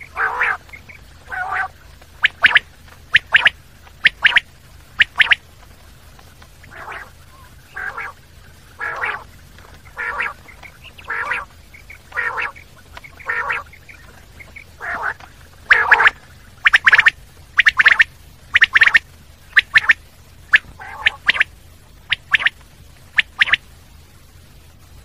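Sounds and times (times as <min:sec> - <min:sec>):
quail calling: 0:00.0 - 0:23.6.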